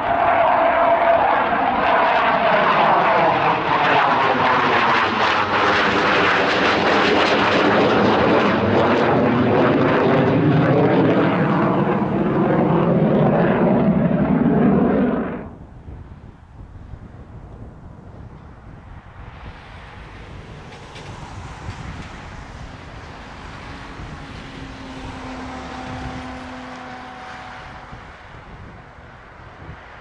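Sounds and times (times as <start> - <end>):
jet flying past overhead: 0.0 - 30.0.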